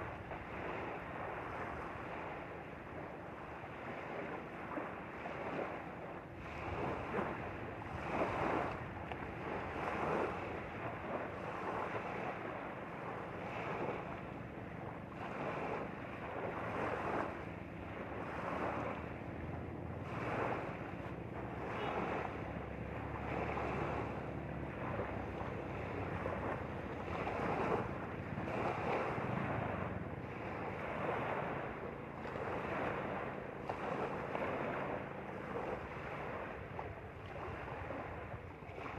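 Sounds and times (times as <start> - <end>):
waves lapping on pebbly shore: 0.0 - 38.9
wind on microphone: 0.0 - 38.9.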